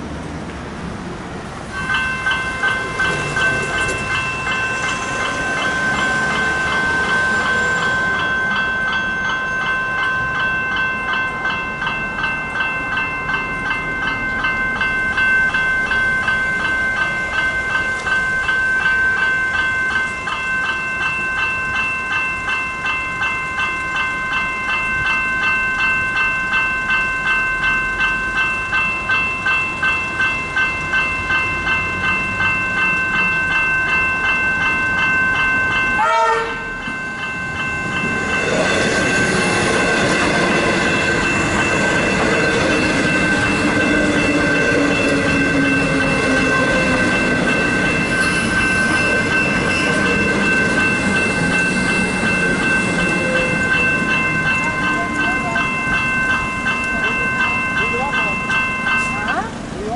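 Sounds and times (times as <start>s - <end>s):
level crossing bells ringing: 1.6s - 59.9s.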